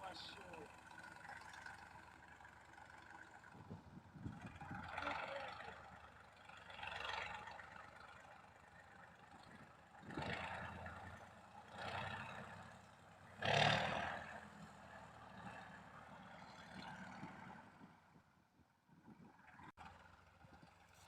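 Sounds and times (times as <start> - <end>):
tractor diesel engine running: 0.0 - 18.2, 19.3 - 21.0.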